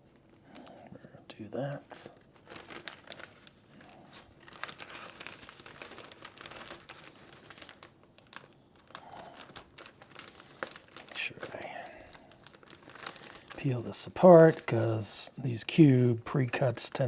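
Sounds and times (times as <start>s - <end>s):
plastic packaging crinkling: 1.6s - 17.0s.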